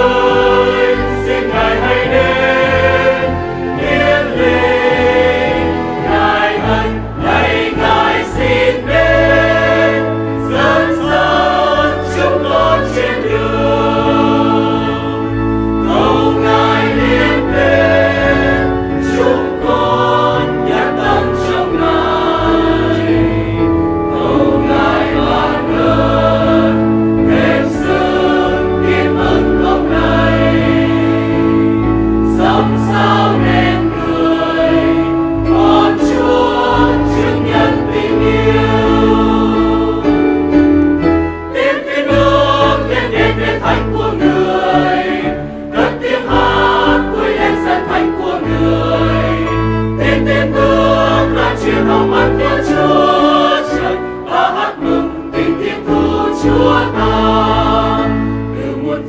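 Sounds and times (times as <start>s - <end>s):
church choir singing a hymn: 0.0s - 59.0s.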